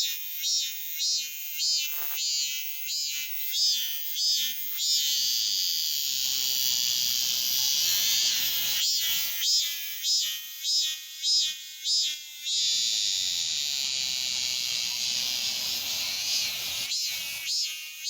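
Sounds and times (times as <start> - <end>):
cicadas singing: 2.9 - 17.8.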